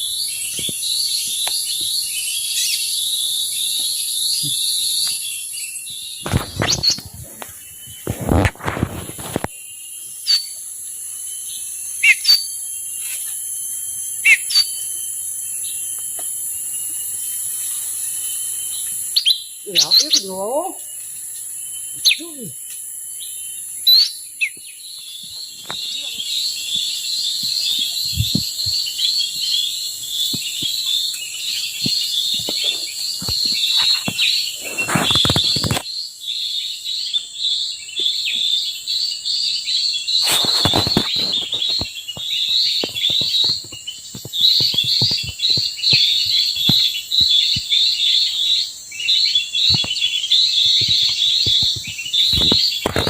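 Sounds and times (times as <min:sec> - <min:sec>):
high insect whine: 0:00.0 - 0:53.0
small birds chirping: 0:00.0 - 0:53.0.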